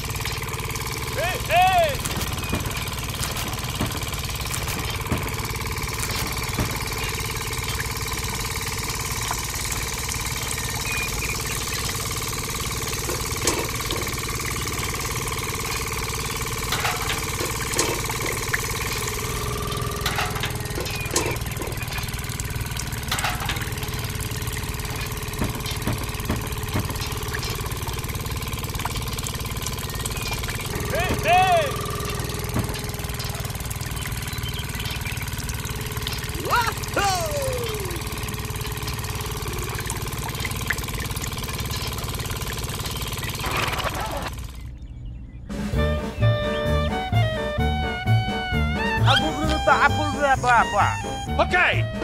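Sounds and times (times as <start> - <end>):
small motor humming: 0.0 - 45.0.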